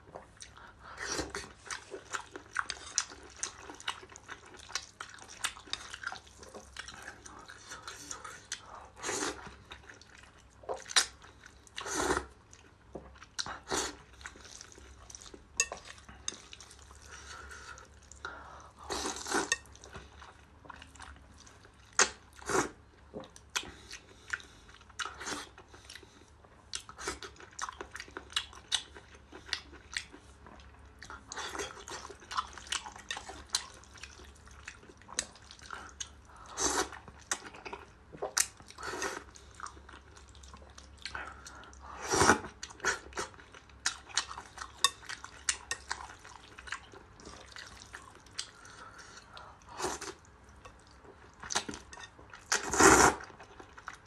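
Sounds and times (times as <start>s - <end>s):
person slurping and chewing noodles: 0.3s - 54.0s.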